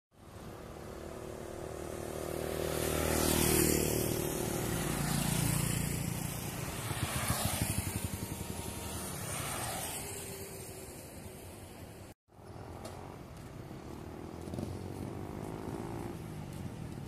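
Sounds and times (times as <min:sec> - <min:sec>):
passing vehicle engine: 0:00.2 - 0:17.0.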